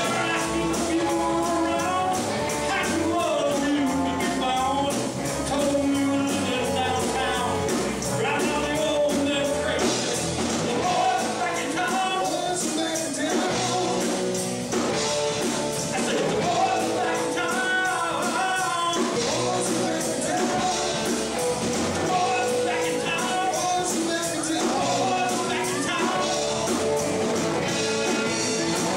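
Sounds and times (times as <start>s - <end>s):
person singing: 0.0s - 14.4s, 15.0s - 28.9s
drums: 0.0s - 28.9s
electric guitar: 0.0s - 28.9s
live rock band playing: 0.0s - 28.9s.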